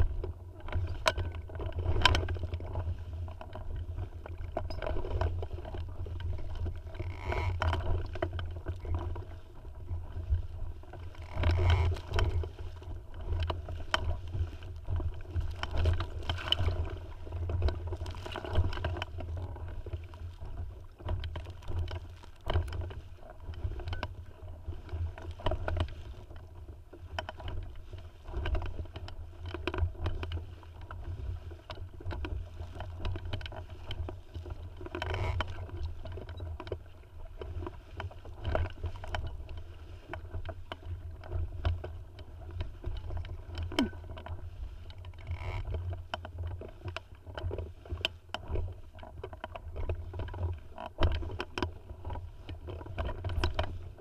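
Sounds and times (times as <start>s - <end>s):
water splashing against hull: 0.0s - 54.0s
wind rumble on microphone: 0.0s - 54.0s.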